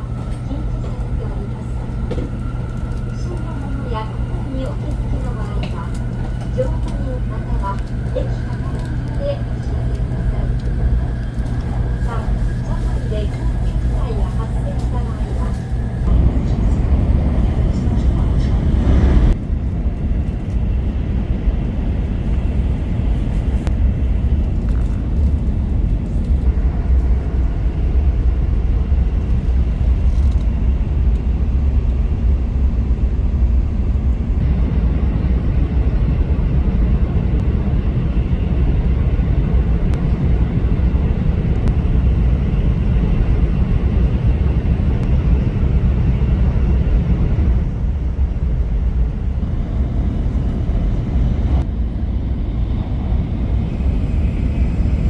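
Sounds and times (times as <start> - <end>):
train running gear rumbling: 0.0 - 55.0.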